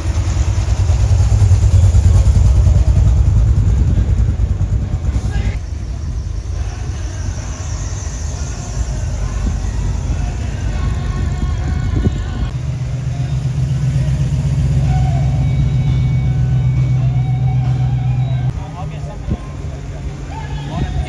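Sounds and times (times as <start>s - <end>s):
car engine rumbling: 0.0s - 21.0s.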